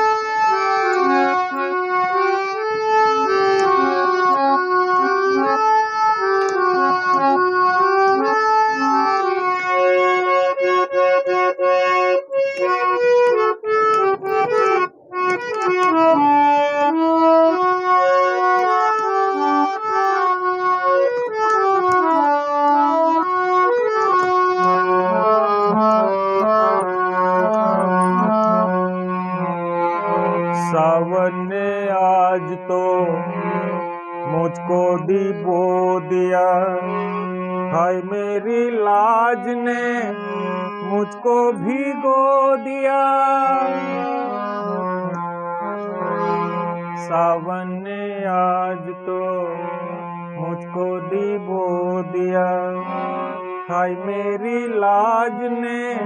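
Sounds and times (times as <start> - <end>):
harmonium melody: 0.0 - 56.0.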